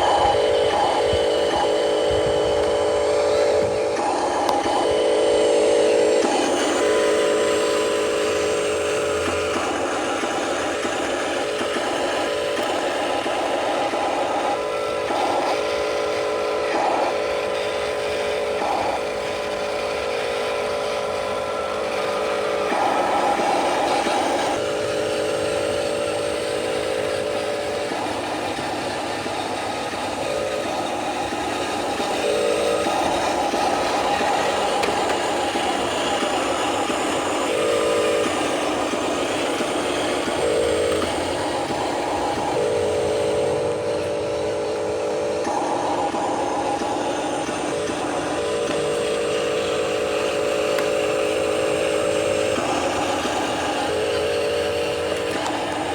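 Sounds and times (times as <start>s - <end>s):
toy truck motor and gear whine: 0.0s - 55.9s.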